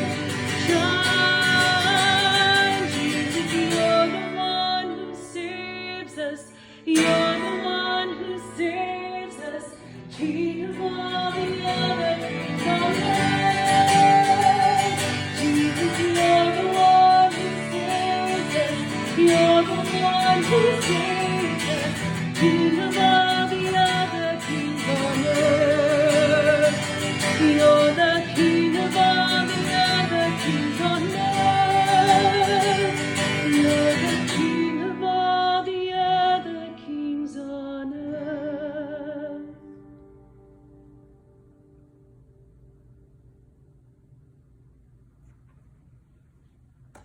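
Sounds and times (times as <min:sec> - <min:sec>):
woman singing worship song: 0:00.0 - 0:39.8
strummed acoustic guitar: 0:00.0 - 0:43.1.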